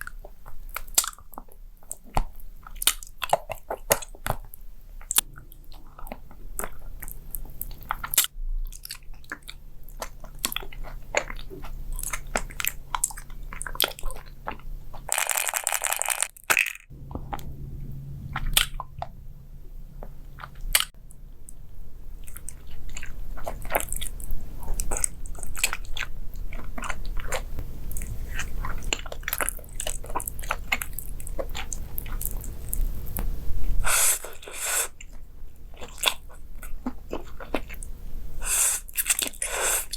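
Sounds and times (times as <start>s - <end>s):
chewing crunchy food: 0.0s - 16.9s, 20.0s - 33.4s, 34.2s - 39.9s.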